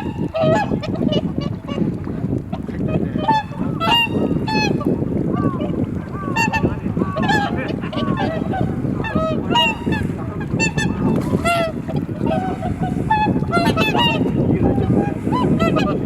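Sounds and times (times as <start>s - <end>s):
swans honking: 0.0s - 1.8s, 2.9s - 16.0s
wind rumble on microphone: 0.0s - 16.0s.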